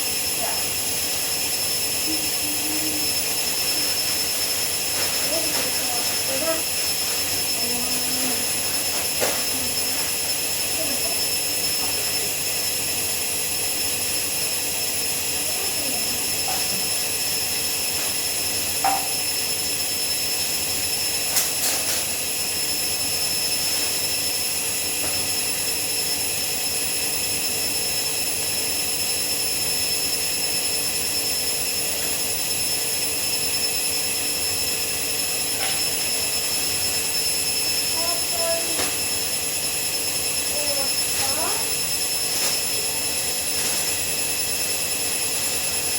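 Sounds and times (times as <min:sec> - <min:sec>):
washing machine spinning whine: 0:00.0 - 0:45.9.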